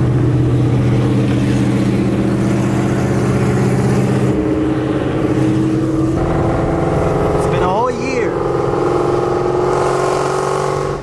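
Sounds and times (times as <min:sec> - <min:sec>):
car engine cruising inside cabin: 0:00.0 - 0:11.0.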